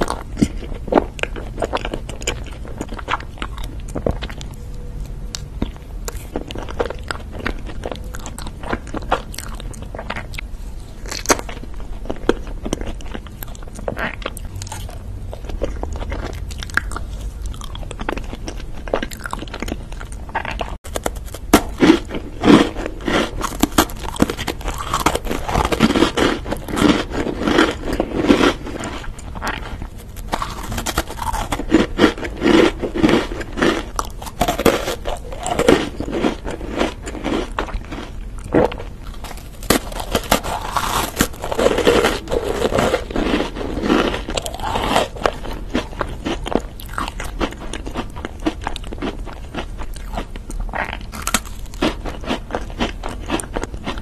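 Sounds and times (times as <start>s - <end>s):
chewing cake: 0.0s - 54.0s
biscuit crunches: 5.3s - 54.0s.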